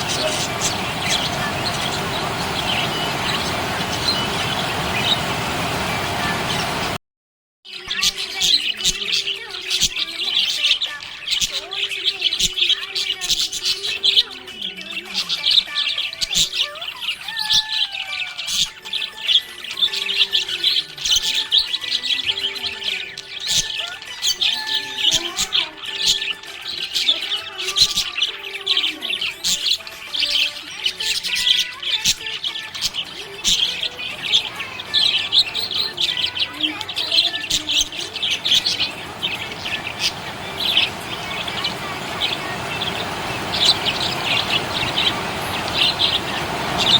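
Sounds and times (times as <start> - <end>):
budgerigars chirping and warbling: 0.0 - 7.0, 7.7 - 46.9.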